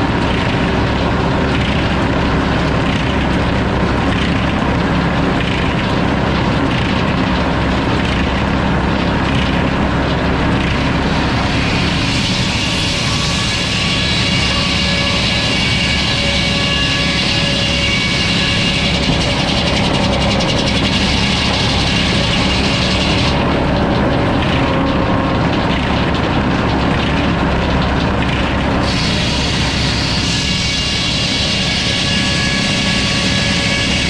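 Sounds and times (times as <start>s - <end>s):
sawmill mechanical drone: 0.0s - 34.0s.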